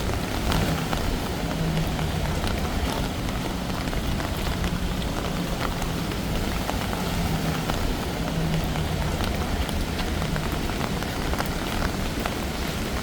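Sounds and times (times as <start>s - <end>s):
rain pattering on hard surfaces: 0.0s - 13.0s.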